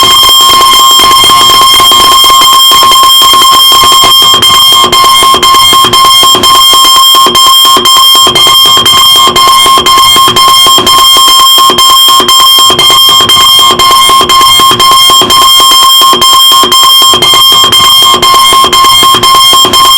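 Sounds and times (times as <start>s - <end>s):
electronic alarm clock beeping: 0.0s - 19.9s.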